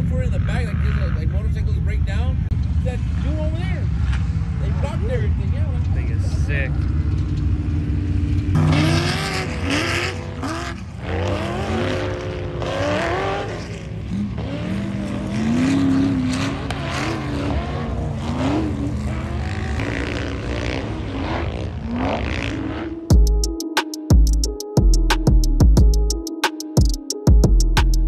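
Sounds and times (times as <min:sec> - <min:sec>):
engines revving hard: 0:00.0 - 0:23.1.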